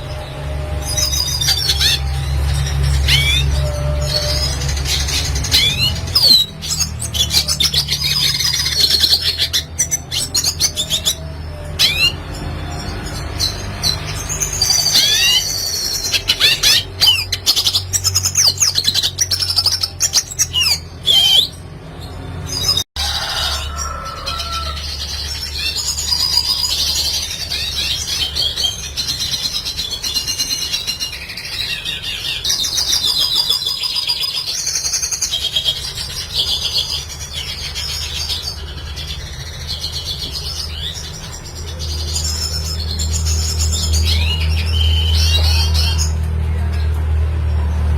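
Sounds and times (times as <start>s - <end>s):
bird singing and twittering: 0.0s - 47.9s.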